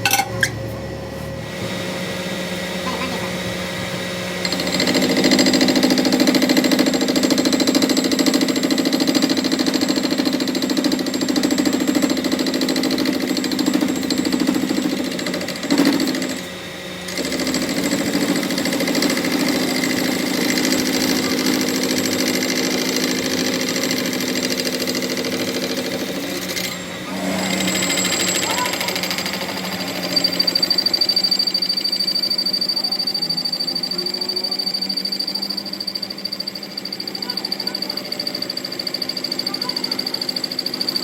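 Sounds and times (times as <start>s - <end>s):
workshop machine pulsing hum: 0.0s - 41.0s.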